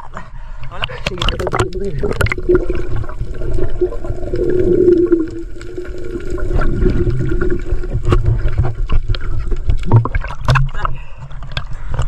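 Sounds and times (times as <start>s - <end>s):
underwater clicks: 0.6s - 12.0s
underwater rumble: 0.8s - 12.0s.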